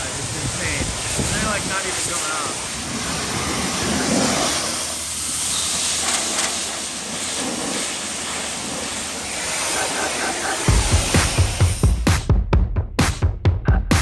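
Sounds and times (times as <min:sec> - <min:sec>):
pressure washer spraying water: 0:00.0 - 0:12.3.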